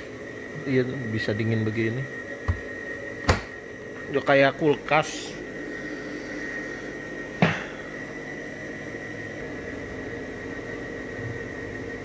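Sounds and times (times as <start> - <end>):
machine hum with high whine: 0.0 - 12.0.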